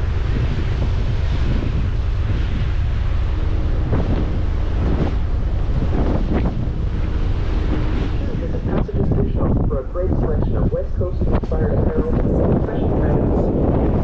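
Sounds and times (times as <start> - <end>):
faint steady hum: 0.0 - 14.0
water rushing along hull: 0.0 - 14.0
wind buffeting microphone: 0.0 - 14.0.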